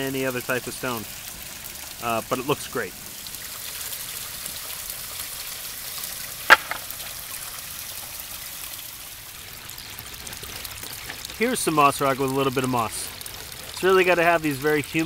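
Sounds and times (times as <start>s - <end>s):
water trickling over rocks: 0.0s - 15.0s.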